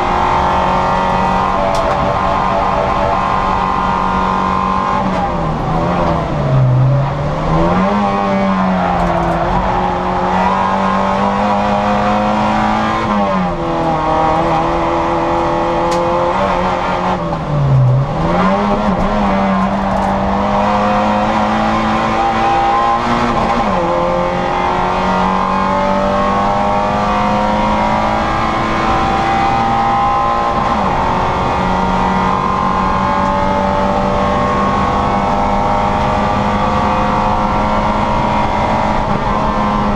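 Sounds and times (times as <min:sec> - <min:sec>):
car engine at high revs: 0:00.0 - 0:39.9.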